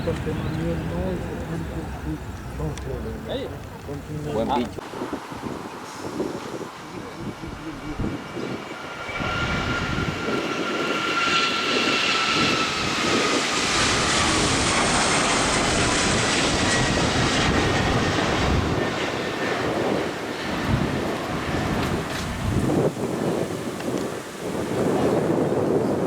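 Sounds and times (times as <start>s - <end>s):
jet engines passing: 0.0s - 26.0s.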